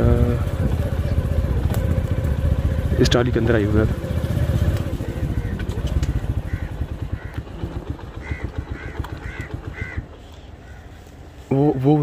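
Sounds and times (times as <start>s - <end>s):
small motorcycle engine running: 0.0s - 10.8s
bird calling: 0.0s - 12.0s.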